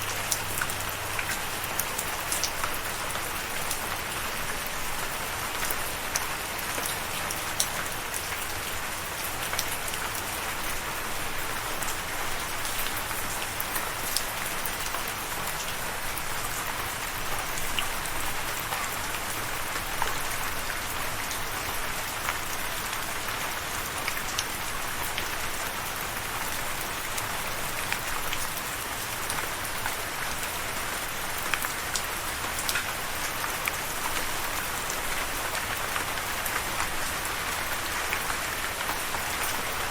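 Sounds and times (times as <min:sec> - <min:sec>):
raindrops pattering on hard surface: 0:00.0 - 0:39.9
steady rain falling: 0:00.0 - 0:39.9.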